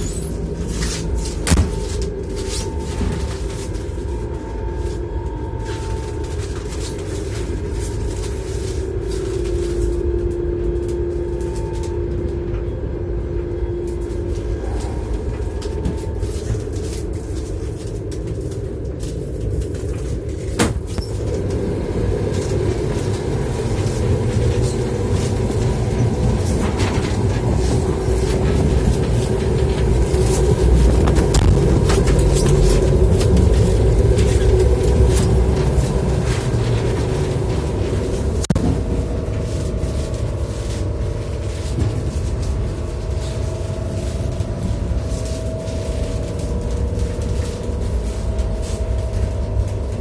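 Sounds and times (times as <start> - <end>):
faint steady whine: 0.0 - 50.0
train wheels rumbling: 0.0 - 50.0.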